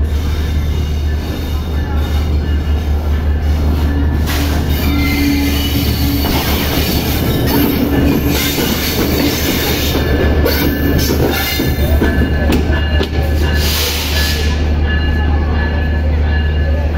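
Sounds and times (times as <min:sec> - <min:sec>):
train wheels clattering and squealing: 0:00.0 - 0:15.2.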